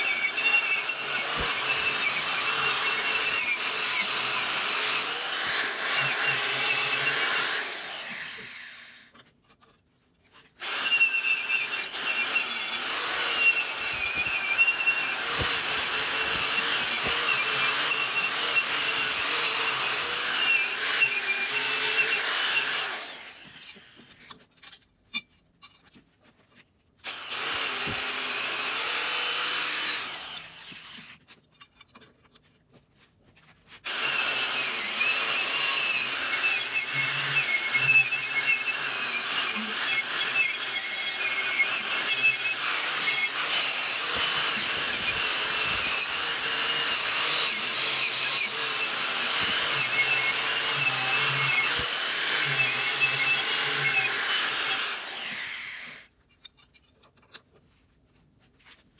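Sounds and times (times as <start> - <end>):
power tool grinding metal: 0.0 - 9.1, 10.6 - 24.1, 27.1 - 31.1, 33.8 - 56.1.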